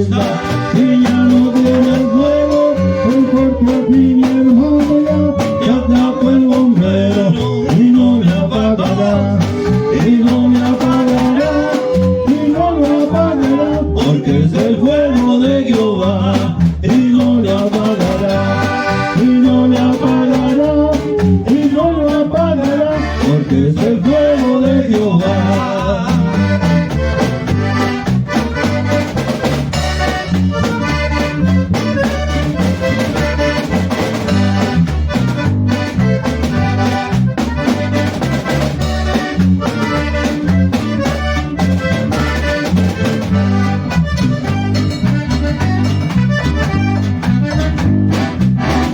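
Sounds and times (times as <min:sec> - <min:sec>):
accordion melody: 0:00.0 - 0:48.9
bass and guitar rhythm: 0:00.0 - 0:48.9.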